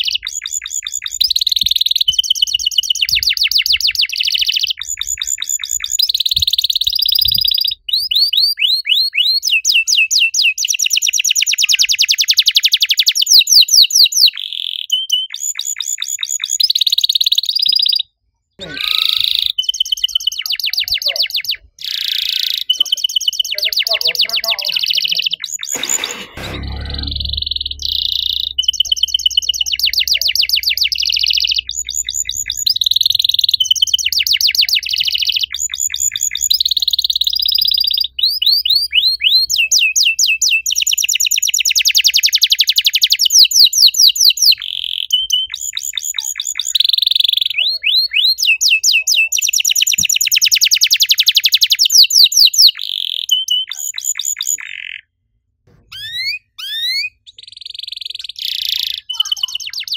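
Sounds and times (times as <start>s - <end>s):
canary singing: 0.0s - 55.1s, 55.9s - 59.9s.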